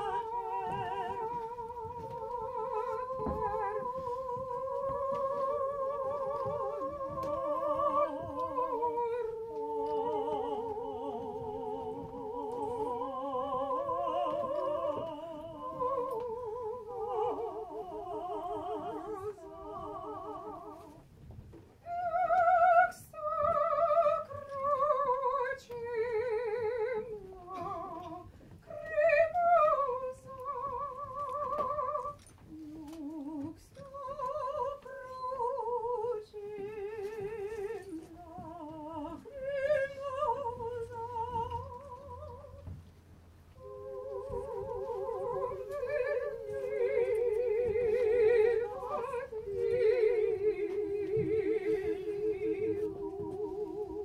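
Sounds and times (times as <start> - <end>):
single voice singing: 0.0 - 21.0, 21.9 - 42.8, 43.6 - 54.0
voices singing in harmony: 0.0 - 21.0, 21.9 - 42.8, 43.5 - 54.0.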